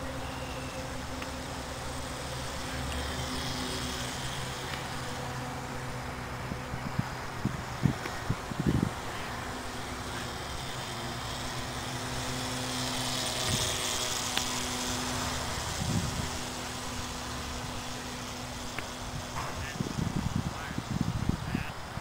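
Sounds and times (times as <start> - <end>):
steady outdoor noise: 0.0 - 22.0.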